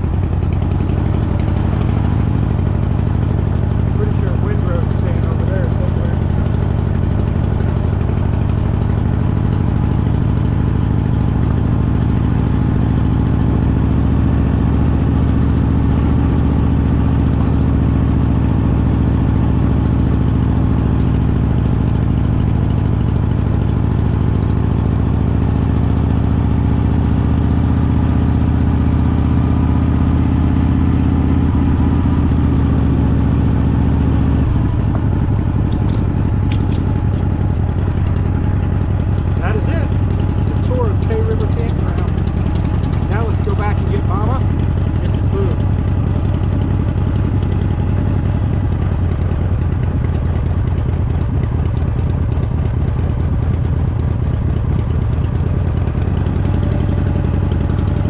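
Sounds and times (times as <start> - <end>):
motorcycle engine running slowly: 0.0 - 58.0.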